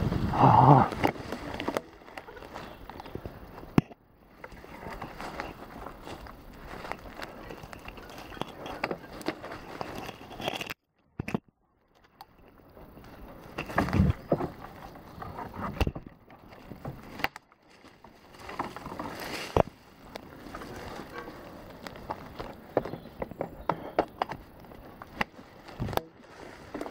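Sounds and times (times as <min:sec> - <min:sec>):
leaves and branches scraping: 0:00.0 - 0:10.7, 0:12.3 - 0:26.9.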